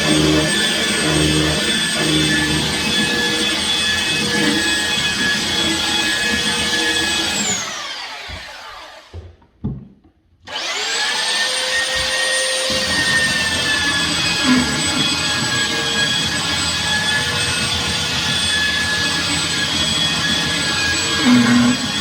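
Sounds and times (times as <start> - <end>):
high-speed electric motor whining: 0.0 - 9.1, 10.5 - 22.0.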